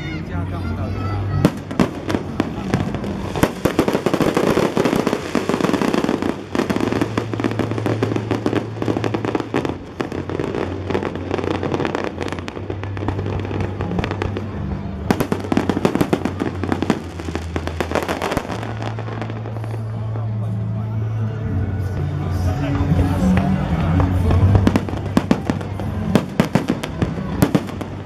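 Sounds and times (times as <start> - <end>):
music playing: 0.0 - 28.0
fireworks crackling and popping: 1.0 - 20.6, 22.0 - 28.0.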